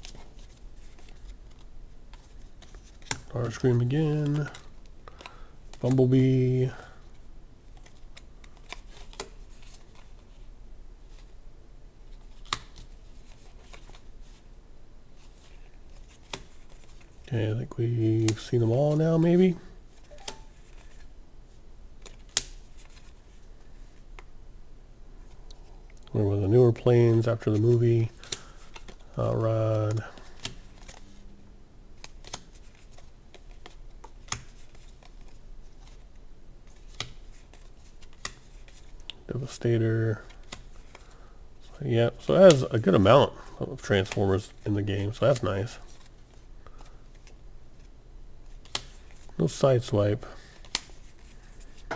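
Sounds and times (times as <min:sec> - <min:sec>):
playing cards rustling: 0:00.0 - 0:11.4, 0:12.0 - 0:14.5, 0:15.1 - 0:24.3, 0:25.2 - 0:31.2, 0:32.0 - 0:41.2, 0:41.8 - 0:51.9.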